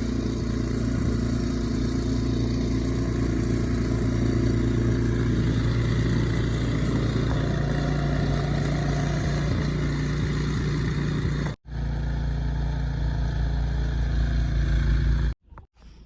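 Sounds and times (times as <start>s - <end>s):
engine running with low hum: 0.0s - 15.7s.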